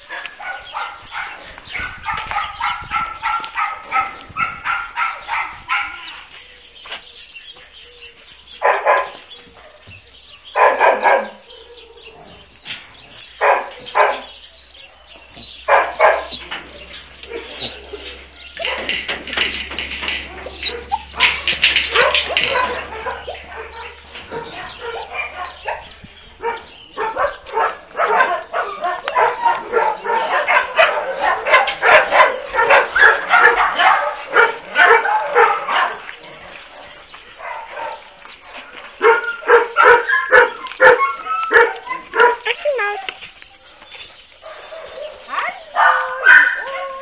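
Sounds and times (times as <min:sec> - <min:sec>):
dogs barking and yapping: 0:00.0 - 0:47.0.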